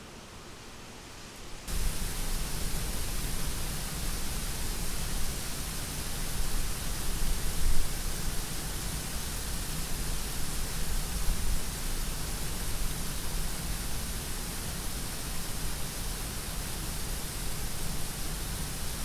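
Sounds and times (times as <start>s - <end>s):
faint hiss: 0.0s - 19.0s
waterfall rushing over rocks: 1.7s - 19.0s.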